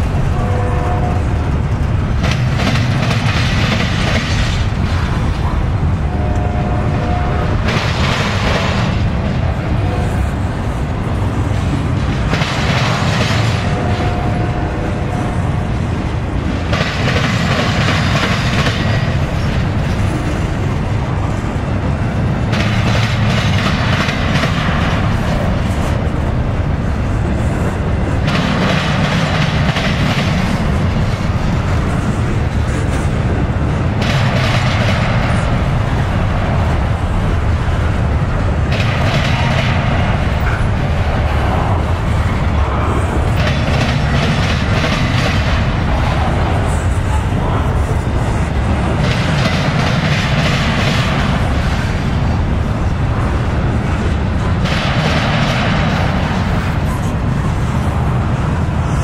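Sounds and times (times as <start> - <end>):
freight cars clattering: 0.0 - 6.0, 15.9 - 58.8
train wheels rumbling on rail: 0.0 - 59.0.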